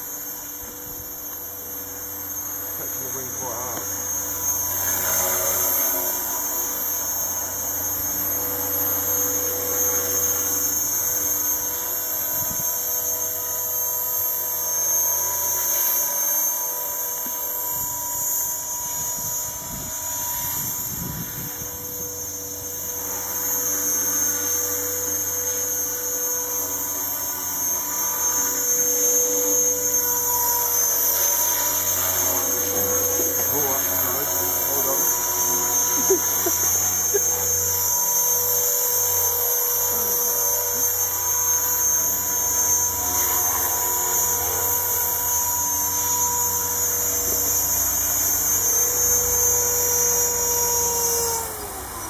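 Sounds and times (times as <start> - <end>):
rc helicopter motor whine: 0.0 - 52.0.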